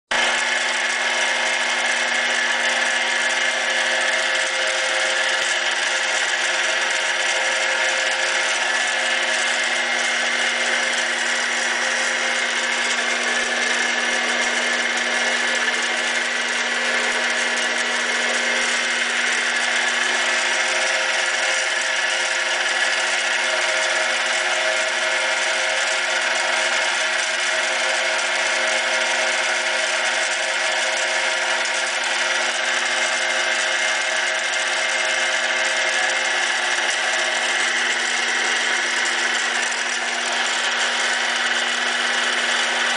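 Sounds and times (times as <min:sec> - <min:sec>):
drill bit boring into metal: 0:00.1 - 0:42.9
lathe motor whining: 0:00.1 - 0:42.9.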